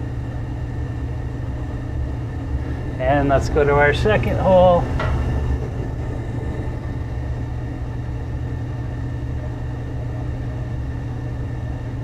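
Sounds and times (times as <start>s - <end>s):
gas furnace rumbling: 0.0s - 12.0s.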